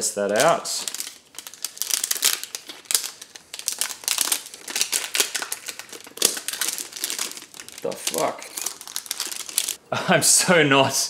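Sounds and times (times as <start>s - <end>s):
rustling: 0.0s - 9.8s.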